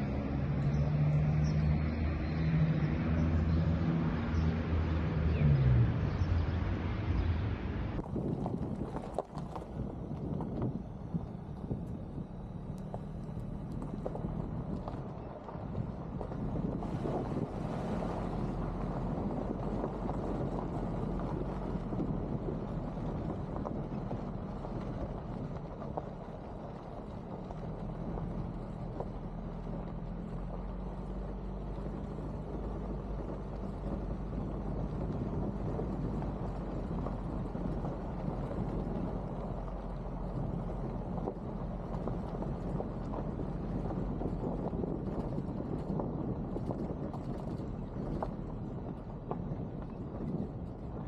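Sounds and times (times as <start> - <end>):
low engine hum: 0.0 - 51.0
wind noise on microphone: 4.4 - 51.0.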